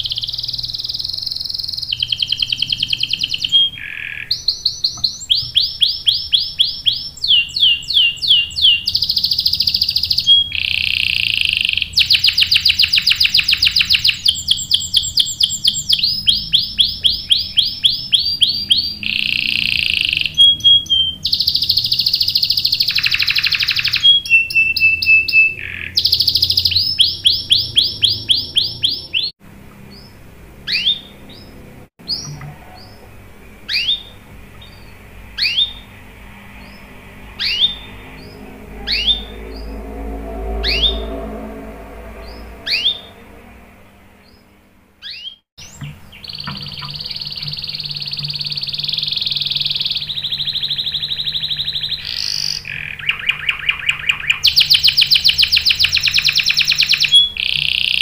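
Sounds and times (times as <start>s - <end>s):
canary singing trills: 0.0s - 29.3s, 29.9s - 43.6s, 44.2s - 58.0s.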